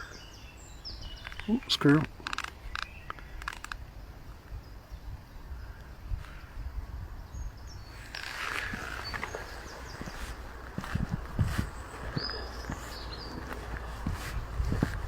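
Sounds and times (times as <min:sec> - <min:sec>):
small birds chirping: 0:00.0 - 0:15.0
wind rumble on microphone: 0:02.6 - 0:15.0.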